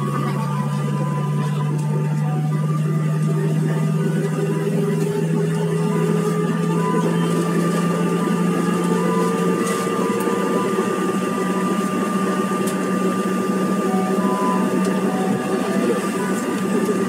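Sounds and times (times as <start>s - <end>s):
jet engine drone with whine: 0.0s - 17.0s.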